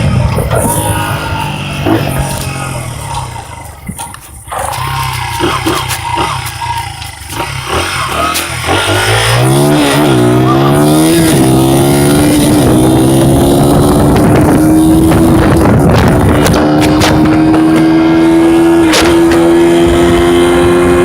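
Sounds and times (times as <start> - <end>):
dirt bike engine accelerating: 0.0 - 21.0.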